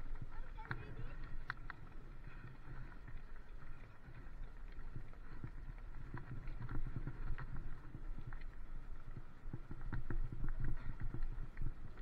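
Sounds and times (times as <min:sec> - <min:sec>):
wind and tyres rumbling: 0:00.0 - 0:12.0.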